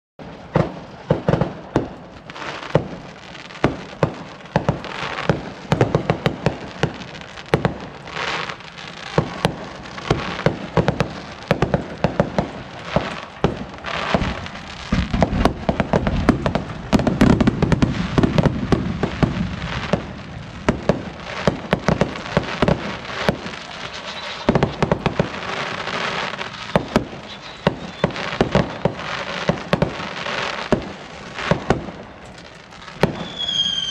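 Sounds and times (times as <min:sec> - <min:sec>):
fireworks bangs: 0:00.2 - 0:33.9
fireworks booms: 0:00.2 - 0:33.9
fireworks crackling: 0:00.2 - 0:33.9.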